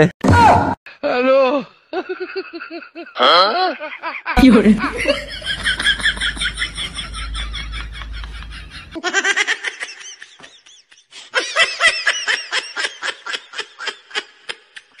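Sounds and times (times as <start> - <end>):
high-pitched laughter: 2.0 - 15.0.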